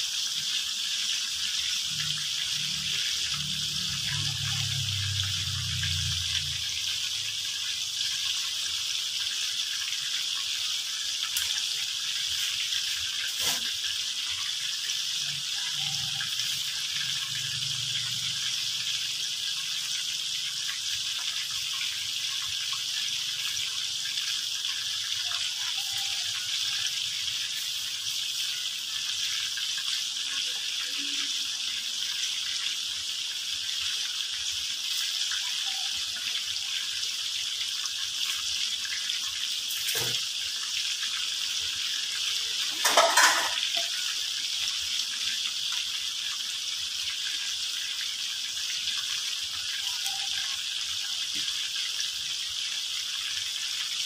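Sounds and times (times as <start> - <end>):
oil sizzling while deep-frying: 0.0 - 54.0.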